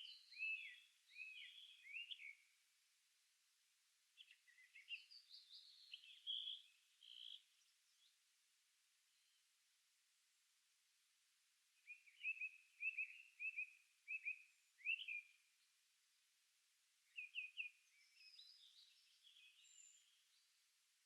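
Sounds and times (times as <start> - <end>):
songbirds chirping and twittering: 0.0 - 21.0.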